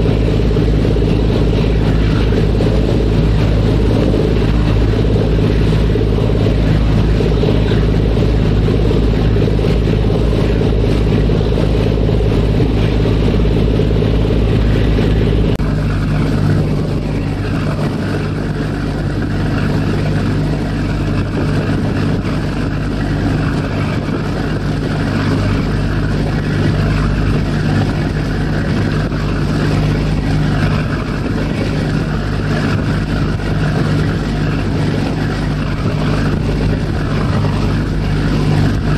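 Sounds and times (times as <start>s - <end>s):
ferry engines droning: 0.0s - 38.9s
wind and water rushing: 0.0s - 38.9s.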